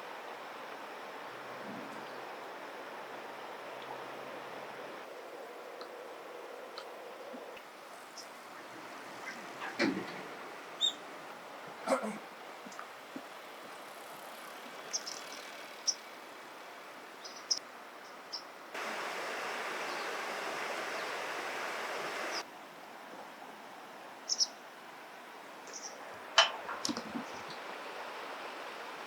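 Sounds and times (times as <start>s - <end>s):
outdoor ambient hiss: 0.0s - 29.0s.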